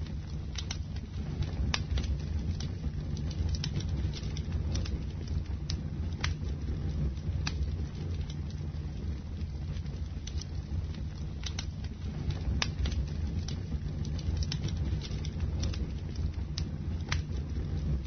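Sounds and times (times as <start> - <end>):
fire crackles and pops: 0.0 - 18.0
low rumble of flames: 0.0 - 18.0.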